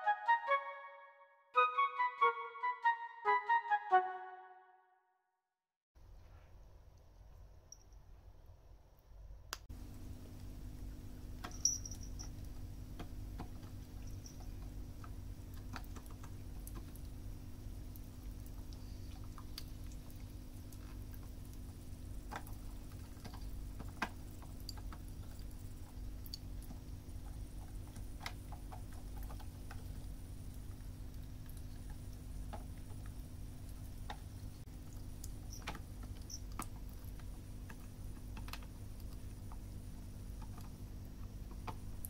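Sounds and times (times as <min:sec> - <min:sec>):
low steady hum: 0:06.0 - 0:42.0.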